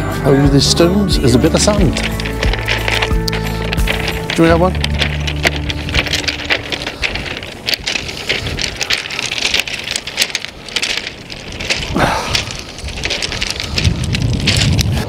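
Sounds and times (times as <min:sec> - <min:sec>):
footsteps on pebbles: 0:00.3 - 0:15.0
low rumble: 0:01.6 - 0:15.0.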